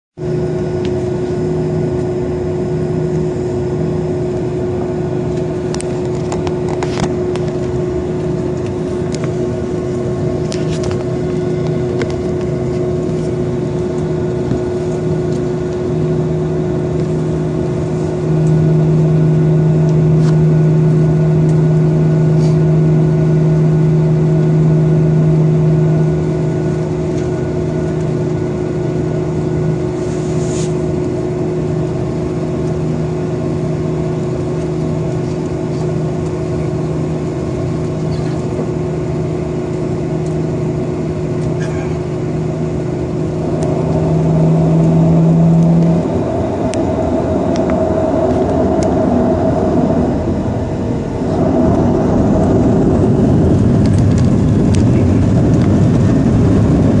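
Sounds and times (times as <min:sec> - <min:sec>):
deep engine drone: 0:00.1 - 0:57.0
jet airliner cabin hum: 0:00.2 - 0:57.0.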